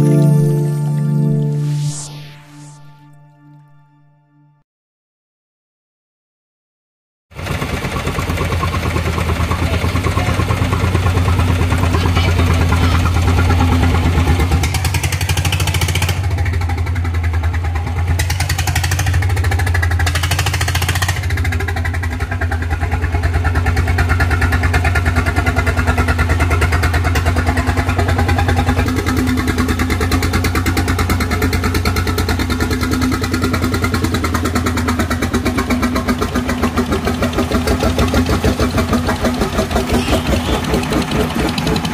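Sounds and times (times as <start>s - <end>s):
boat diesel engine chugging: 7.4s - 41.9s.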